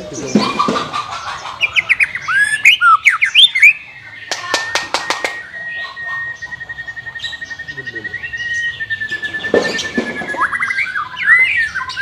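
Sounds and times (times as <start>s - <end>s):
bird whistling song: 0.2s - 12.0s.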